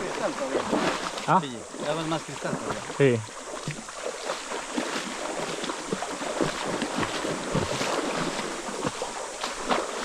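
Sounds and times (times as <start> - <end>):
waterfall rushing and splashing: 0.0 - 10.0.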